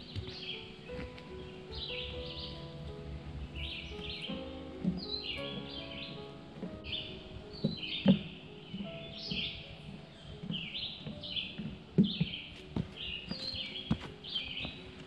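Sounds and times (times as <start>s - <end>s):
soft background music: 0.0s - 15.0s
songbird singing: 0.0s - 15.0s.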